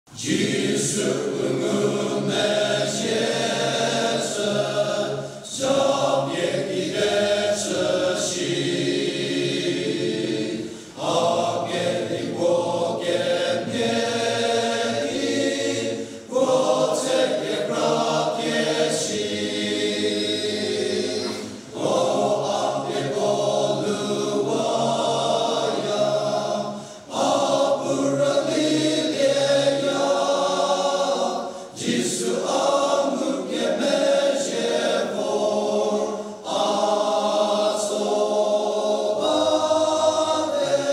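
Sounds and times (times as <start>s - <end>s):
men's choir singing: 0.1s - 40.9s.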